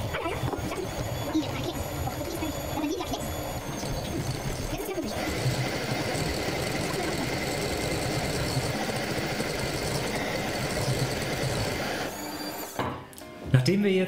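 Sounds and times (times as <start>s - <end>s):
electric hand mixer whirring: 0.0s - 12.9s.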